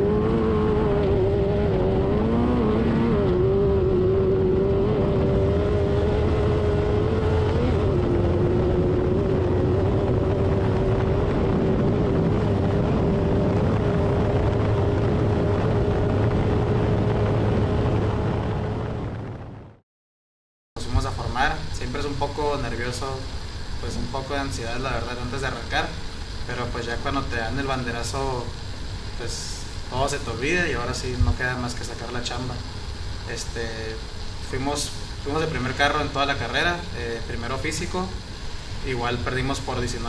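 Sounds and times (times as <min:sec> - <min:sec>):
race car engine running at high revs: 0:00.0 - 0:19.8, 0:20.8 - 0:40.0.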